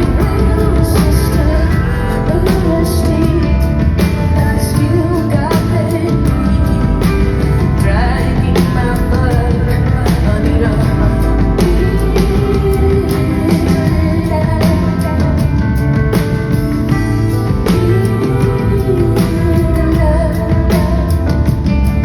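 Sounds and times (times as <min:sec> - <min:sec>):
drums beating: 0:00.0 - 0:22.0
rock band playing: 0:00.0 - 0:22.0
woman singing: 0:00.0 - 0:22.0.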